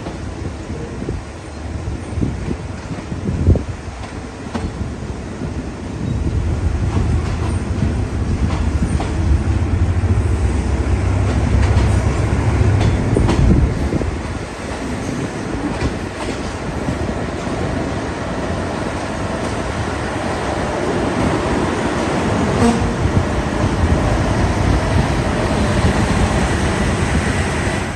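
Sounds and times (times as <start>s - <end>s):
train running on rails: 0.0s - 27.9s.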